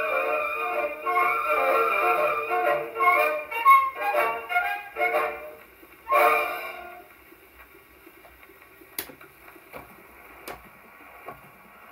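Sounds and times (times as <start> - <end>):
record surface hiss: 0.0 - 11.9
song on gramophone record: 0.0 - 11.9.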